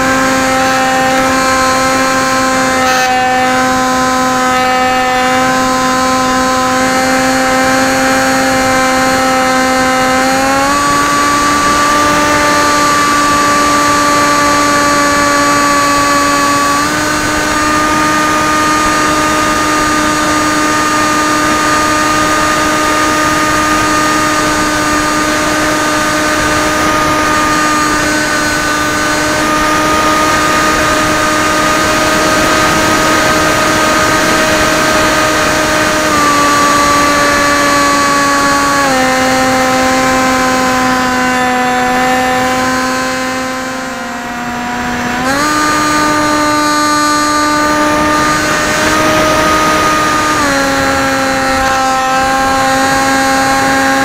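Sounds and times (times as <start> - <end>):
model plane motor whine: 0.0 - 54.0.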